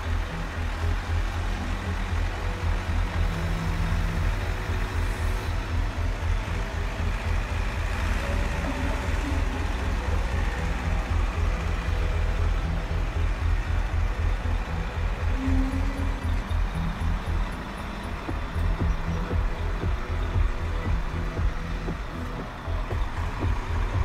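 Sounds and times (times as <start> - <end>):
faint motor whines: 0.0 - 24.0
low rumble of machines: 0.0 - 24.0.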